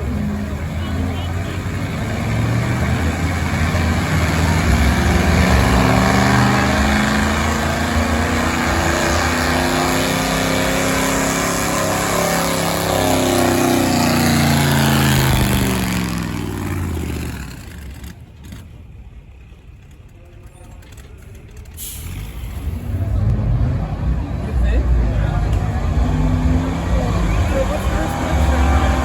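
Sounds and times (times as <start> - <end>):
pickup truck engine at full throttle: 0.0 - 20.2, 20.8 - 29.0.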